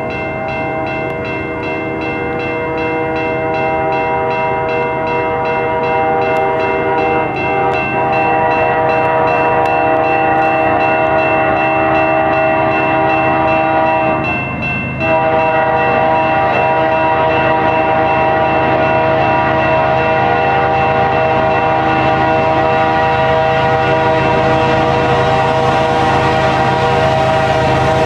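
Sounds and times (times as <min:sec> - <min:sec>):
level crossing bell ringing: 0:00.0 - 0:22.8
locomotive horn blast: 0:02.0 - 0:14.3, 0:15.0 - 0:28.0.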